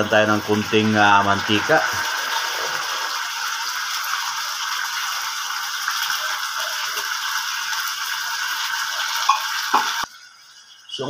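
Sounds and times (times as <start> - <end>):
oil crackling in wok: 1.5 - 10.8.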